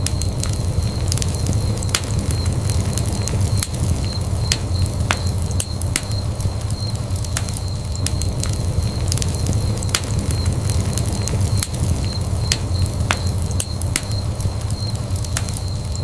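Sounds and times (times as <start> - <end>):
flames rumbling: 0.0 - 16.0
wood fire crackling and popping: 0.0 - 16.0.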